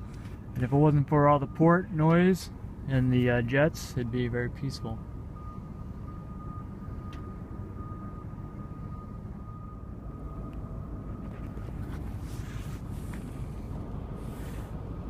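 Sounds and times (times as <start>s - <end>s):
distant machinery and jet rumble: 0.0s - 15.0s.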